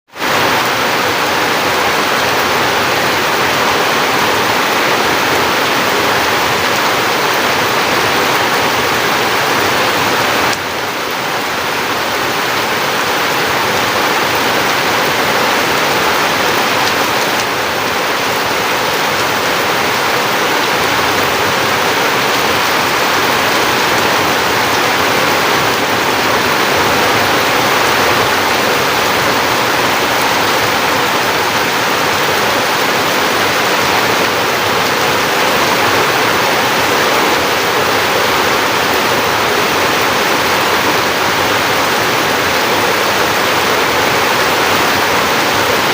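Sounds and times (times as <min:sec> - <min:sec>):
heavy rain pouring: 0:00.1 - 0:45.9.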